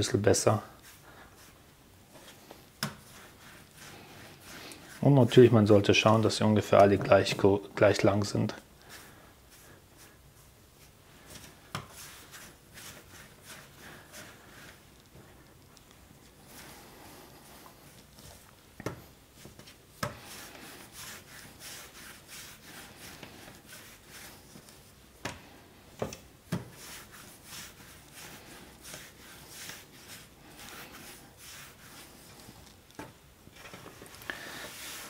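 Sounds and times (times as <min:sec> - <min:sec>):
hands rolling dough: 0:00.0 - 0:35.0.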